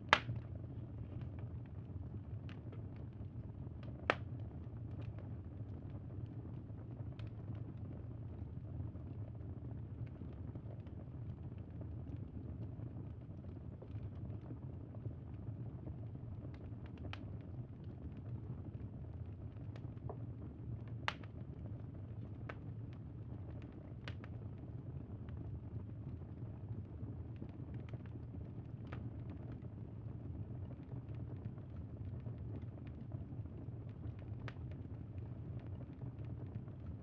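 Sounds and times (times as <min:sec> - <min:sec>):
campfire rumble: 0:00.0 - 0:37.0
fire crackles and pops: 0:00.0 - 0:37.0.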